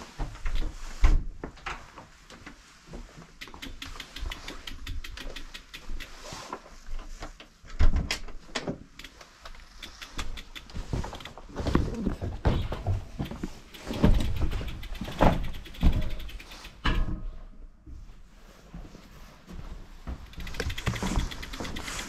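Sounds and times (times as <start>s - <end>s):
sharp clicks and knocks: 0.2s - 2.5s, 3.4s - 6.5s, 7.1s - 17.4s, 20.1s - 22.0s.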